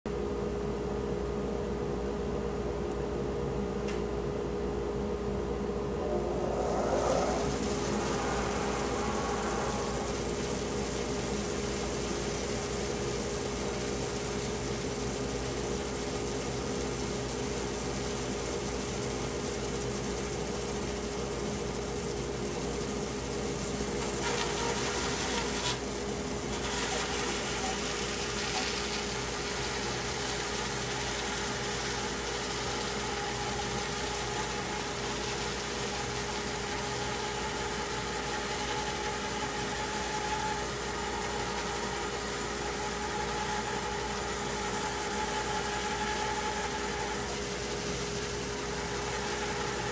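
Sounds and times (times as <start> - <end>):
machine humming: 4.4 - 49.9.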